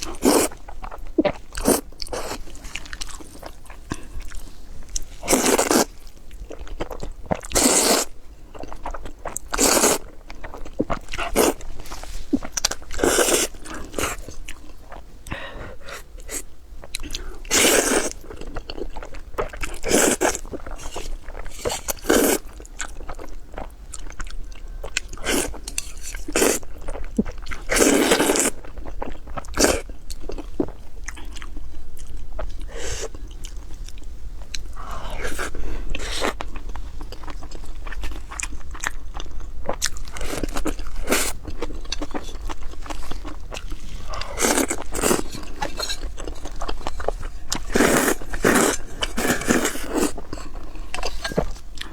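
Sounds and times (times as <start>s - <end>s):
person chewing crunchy food: 0.0s - 15.1s, 15.8s - 51.9s.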